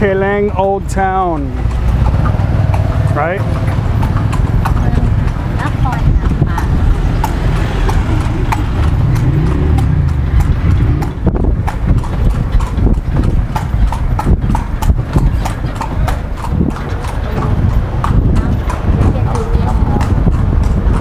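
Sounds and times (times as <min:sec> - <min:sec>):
horse hooves clip-clopping: 0:00.0 - 0:21.0
low rumble: 0:01.4 - 0:21.0.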